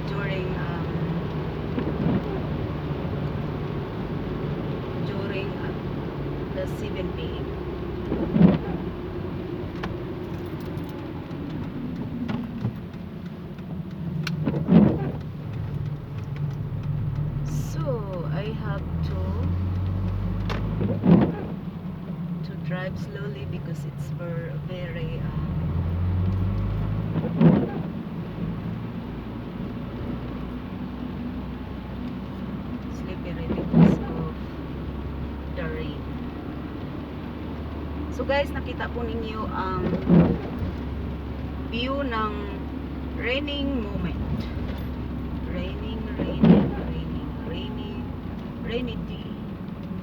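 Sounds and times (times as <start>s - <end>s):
car engine and tyre noise: 0.0s - 50.0s
rain on car: 0.0s - 50.0s.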